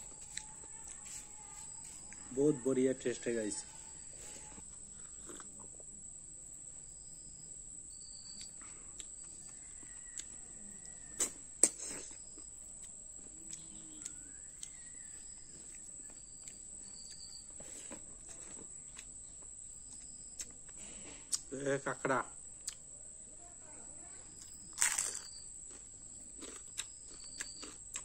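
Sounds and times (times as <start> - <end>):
faint chirps: 0.0 - 28.0
insect drone: 0.0 - 28.0.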